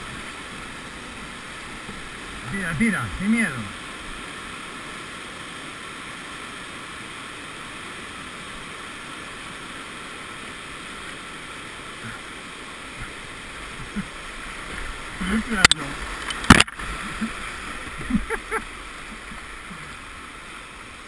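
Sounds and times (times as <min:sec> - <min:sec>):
river water rushing over rapids: 0:00.0 - 0:21.0.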